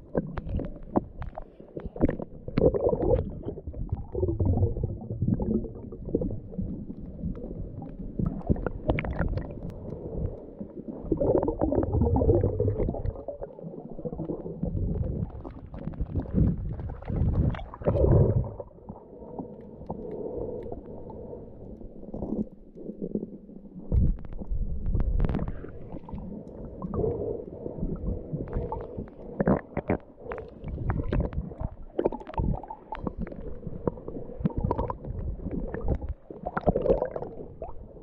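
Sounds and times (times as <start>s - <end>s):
muffled underwater rumbling and gurgling: 0.0s - 38.0s.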